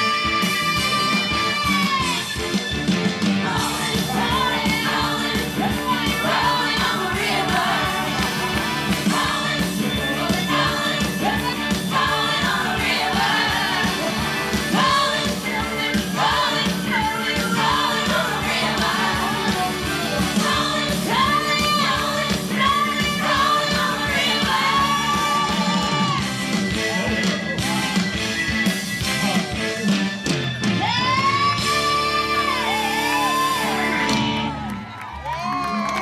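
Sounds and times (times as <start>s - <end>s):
pop-rock song with singing: 0.0s - 34.7s.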